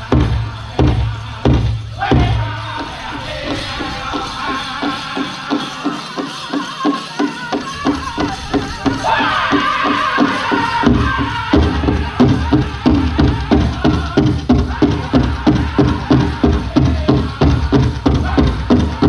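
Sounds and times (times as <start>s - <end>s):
big drum beating: 0.0s - 6.2s, 7.4s - 19.0s.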